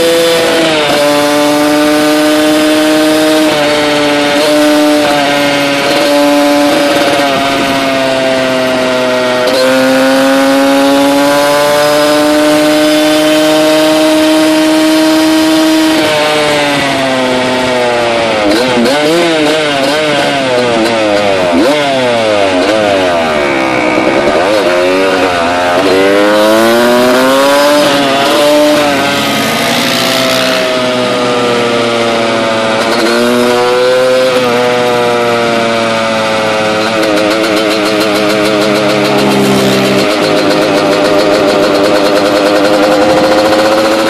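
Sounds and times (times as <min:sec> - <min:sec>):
two-stroke engine revving: 0:00.0 - 0:44.0.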